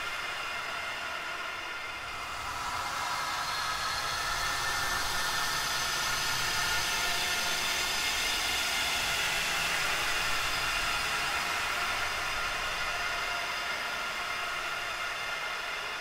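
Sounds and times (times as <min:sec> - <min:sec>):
ghostly hissing drone: 0:00.0 - 0:16.0.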